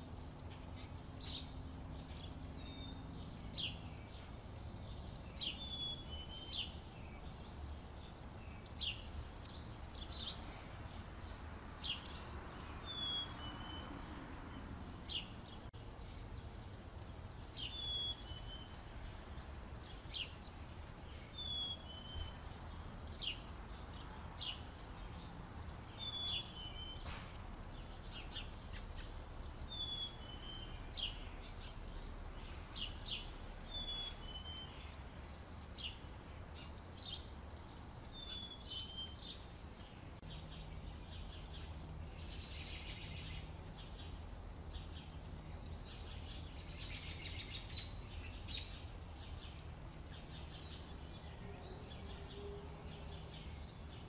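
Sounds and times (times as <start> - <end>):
small birds chipping: 0.0 - 54.0.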